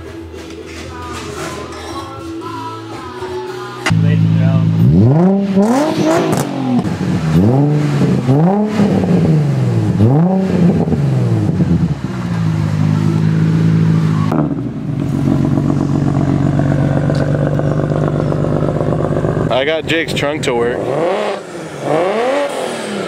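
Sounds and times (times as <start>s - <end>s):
different steady engine note: 3.8s - 23.0s
car engine revving: 3.9s - 23.0s.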